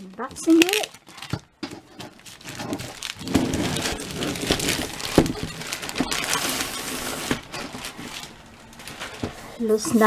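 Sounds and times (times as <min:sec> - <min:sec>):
plastic film crinkling: 0:00.0 - 0:09.8.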